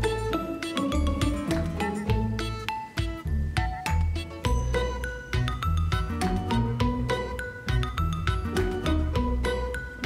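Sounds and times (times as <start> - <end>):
light plucked melody with bass: 0.0 - 10.0.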